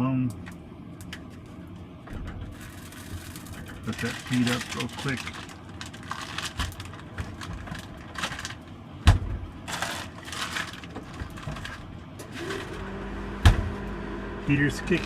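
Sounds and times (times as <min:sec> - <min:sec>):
heater humming: 0:00.0 - 0:15.0.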